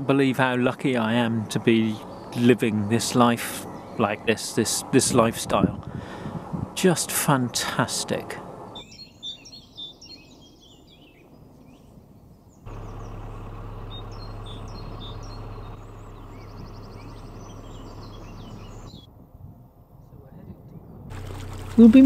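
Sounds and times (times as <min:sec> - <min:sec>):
songbirds chirping and singing: 0:00.0 - 0:06.2, 0:06.8 - 0:19.1
low hum with faint rushing: 0:00.0 - 0:08.8, 0:11.3 - 0:22.0.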